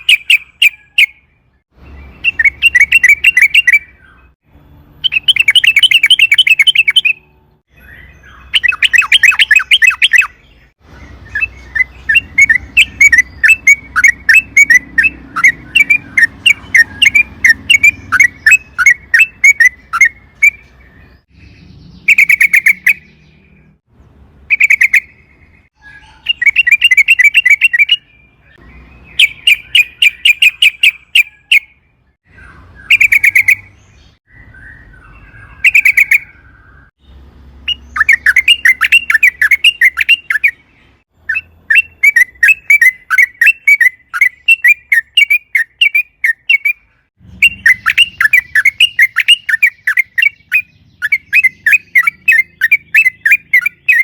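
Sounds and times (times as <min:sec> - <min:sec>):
bird singing bubbly chattering notes: 0:00.0 - 0:01.2, 0:02.1 - 0:04.4, 0:05.0 - 0:23.8, 0:24.5 - 0:37.0, 0:37.6 - 0:54.0.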